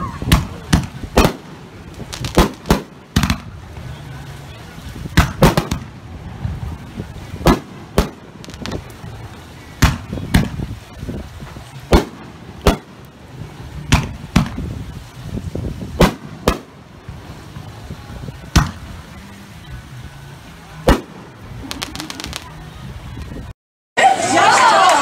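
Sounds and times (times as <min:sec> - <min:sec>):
fireworks bangs: 0:00.0 - 0:19.2, 0:20.8 - 0:22.6.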